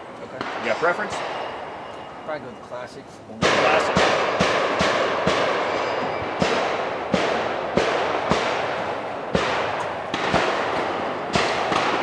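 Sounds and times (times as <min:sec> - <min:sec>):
gunshots echoing: 0:00.4 - 0:01.8, 0:03.4 - 0:12.0.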